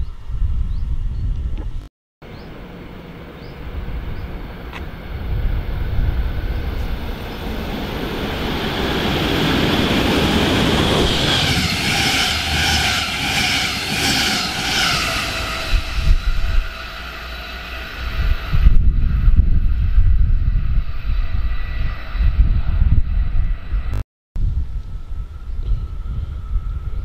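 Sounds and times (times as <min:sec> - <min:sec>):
wind thumping on microphone: 0:00.0 - 0:01.9, 0:03.8 - 0:07.7, 0:09.6 - 0:16.8, 0:18.0 - 0:27.0
locomotive whine: 0:02.2 - 0:27.0
train wheels rumbling on rails: 0:02.3 - 0:24.0.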